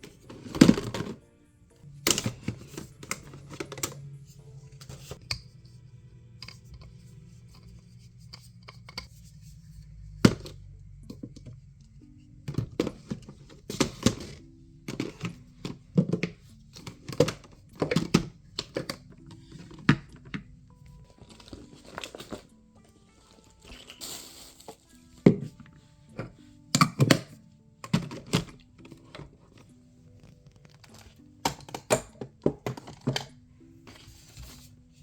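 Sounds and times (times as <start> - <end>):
background music: 0.0 - 35.0
rustling and crinkling of handled things: 0.0 - 35.0.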